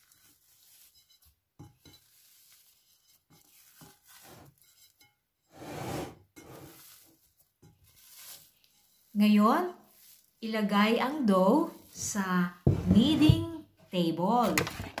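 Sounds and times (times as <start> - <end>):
dough squishing: 0.0 - 5.2, 6.5 - 13.5.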